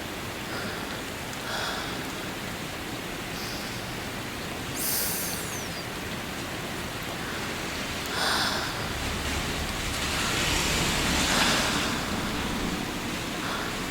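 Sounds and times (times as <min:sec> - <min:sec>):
steady rain hiss: 0:00.0 - 0:13.9.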